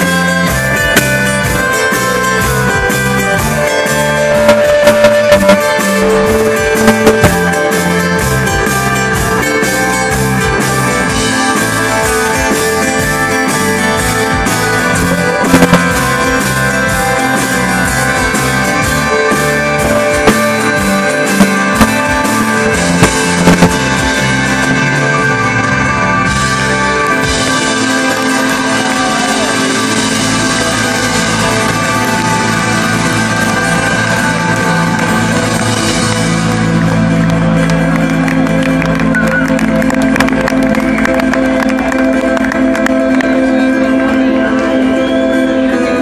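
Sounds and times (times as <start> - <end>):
drum kit: 0.0 - 43.2
bass guitar: 0.0 - 46.0
electric guitars: 0.0 - 46.0.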